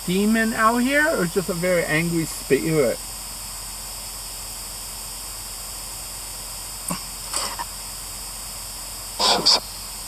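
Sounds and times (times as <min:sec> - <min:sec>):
static hiss: 0:00.0 - 0:10.0.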